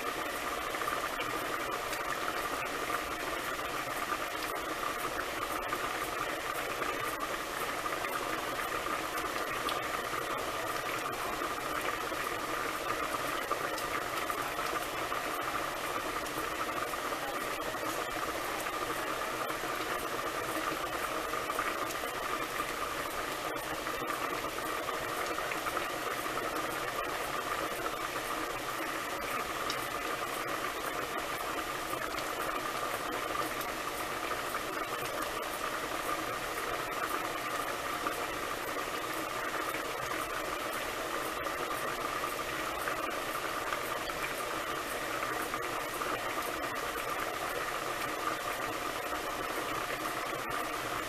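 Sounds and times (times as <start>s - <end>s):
pot boiling and bubbling: 0.0s - 51.0s.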